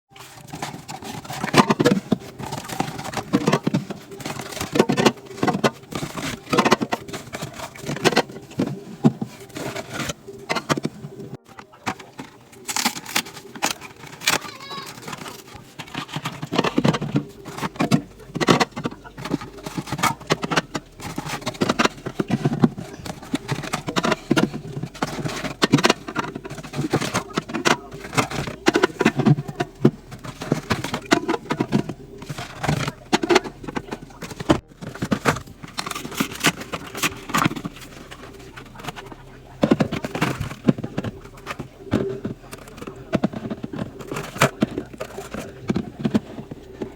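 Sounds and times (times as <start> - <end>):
cans and bottles clinking: 0.1 - 46.9.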